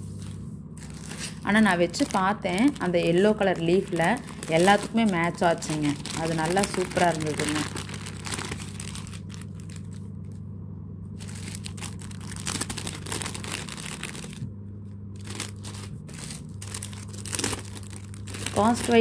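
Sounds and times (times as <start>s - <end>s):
steady low hum: 0.0s - 19.0s
plastic packaging crinkling: 0.2s - 10.4s, 11.2s - 19.0s.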